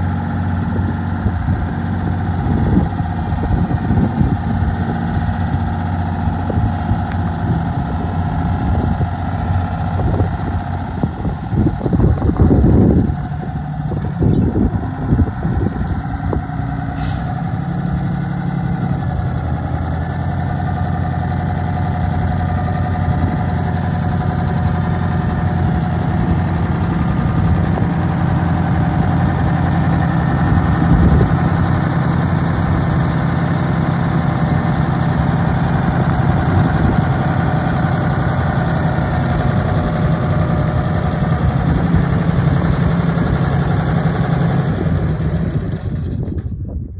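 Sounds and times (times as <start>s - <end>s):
diesel truck engine idling: 0.0s - 46.6s.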